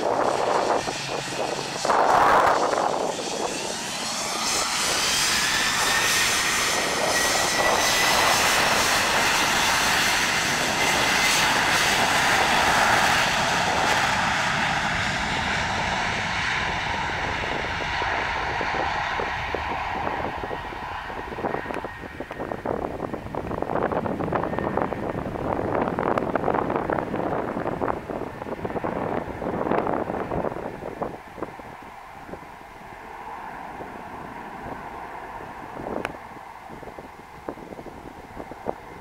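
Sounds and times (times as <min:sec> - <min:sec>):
jet engines whining: 0:00.0 - 0:39.0
loud jet engine noise: 0:00.0 - 0:39.0.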